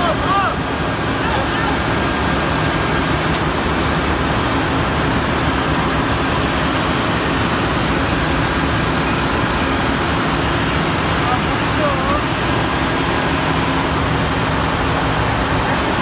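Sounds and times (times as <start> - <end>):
machinery droning: 0.0 - 16.0.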